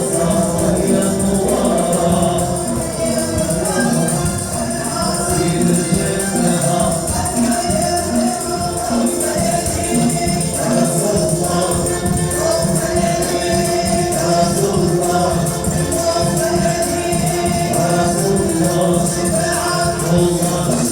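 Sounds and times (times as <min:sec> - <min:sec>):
group singing: 0:00.0 - 0:20.9
tambourines and hand drums: 0:00.0 - 0:20.9.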